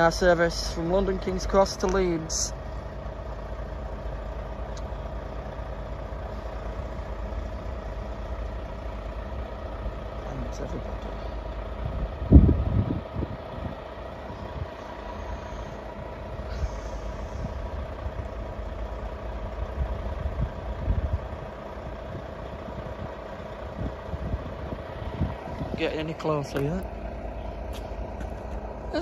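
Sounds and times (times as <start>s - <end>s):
low rumble: 0.0s - 29.0s.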